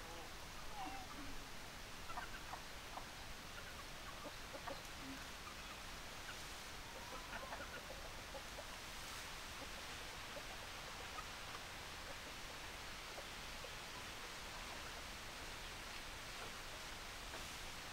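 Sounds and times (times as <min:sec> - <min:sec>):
background hiss: 0:00.0 - 0:17.9
chickens clucking: 0:00.0 - 0:17.9.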